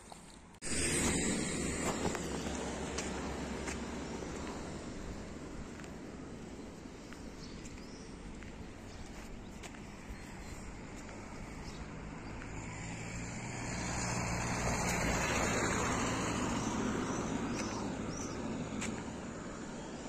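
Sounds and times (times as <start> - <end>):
vehicle driving past: 0.6 - 7.1, 9.6 - 20.0.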